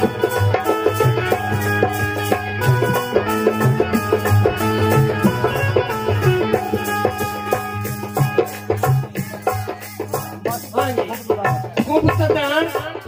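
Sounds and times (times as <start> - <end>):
drum beat: 0.0 - 13.0
harmonium melody: 0.0 - 13.0
rattling percussion: 0.0 - 13.0.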